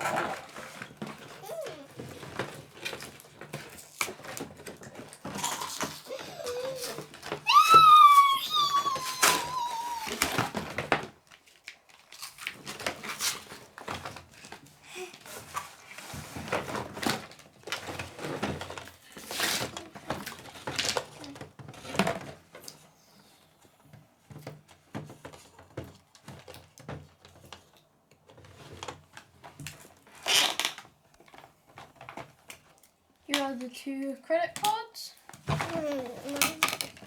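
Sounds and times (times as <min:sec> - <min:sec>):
plastic knocks and clatters: 0:00.0 - 0:08.0, 0:08.6 - 0:11.5, 0:12.5 - 0:22.8, 0:23.9 - 0:33.6, 0:34.5 - 0:37.0.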